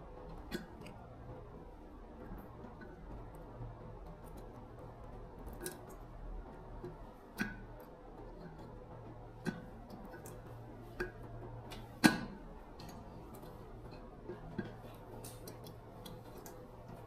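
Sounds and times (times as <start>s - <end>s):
faint low hum: 0.0s - 17.0s
sharp clicks and knocks: 0.0s - 17.0s.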